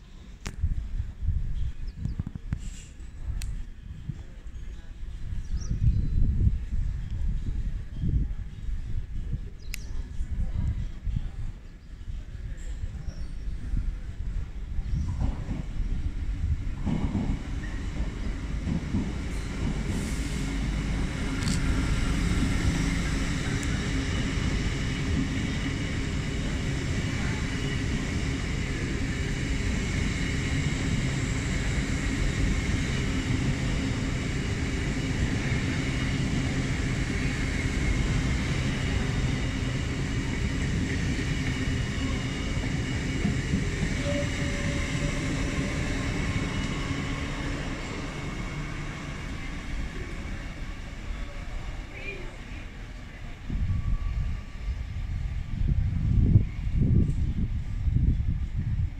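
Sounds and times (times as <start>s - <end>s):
train running gear hum: 0.0s - 58.9s
train wheels rumbling on rail: 0.2s - 58.9s.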